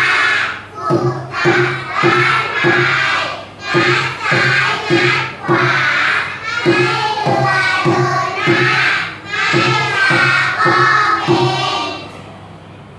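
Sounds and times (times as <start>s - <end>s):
children's song: 0.0s - 12.4s.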